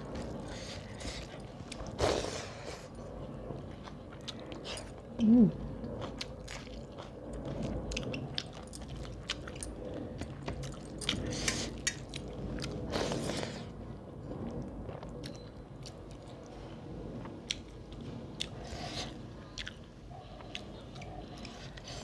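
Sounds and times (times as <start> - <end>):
chewing and lip smacks: 0.1 - 22.0.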